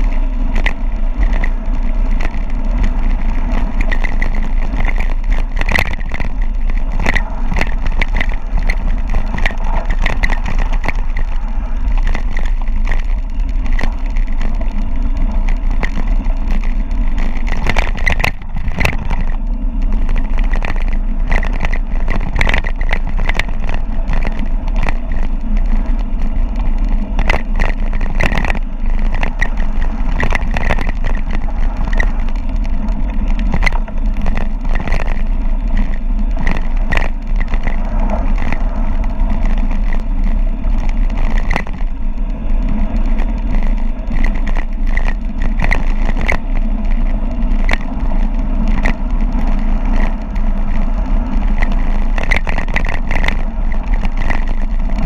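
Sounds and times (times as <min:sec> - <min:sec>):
bike rattling and clicking: 0:00.0 - 0:55.0
wind rushing over microphone: 0:00.0 - 0:55.0.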